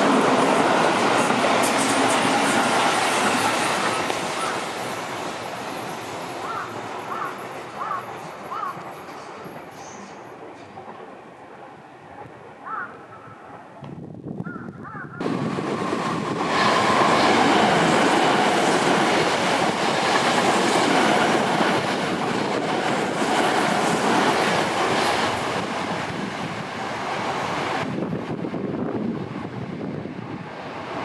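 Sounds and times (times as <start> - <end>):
train wheels on rails: 0.0 - 11.6, 15.2 - 31.0.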